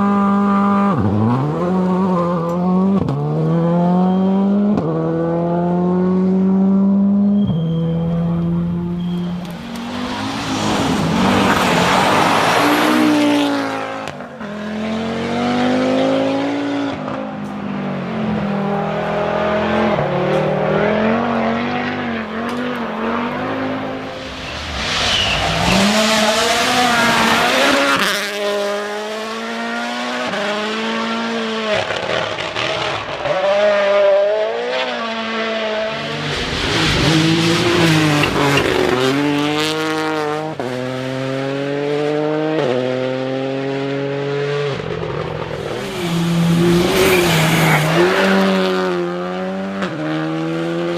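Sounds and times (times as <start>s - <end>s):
rally cars passing at speed: 0.0s - 50.9s.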